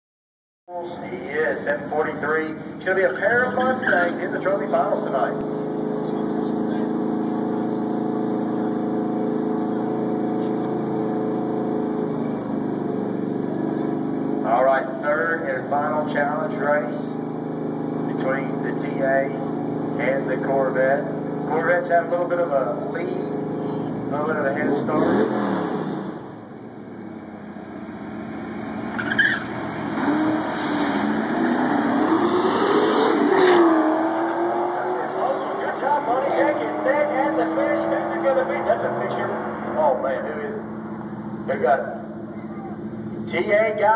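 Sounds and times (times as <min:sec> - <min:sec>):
race car engines idling: 0:00.7 - 0:32.2, 0:33.1 - 0:43.9.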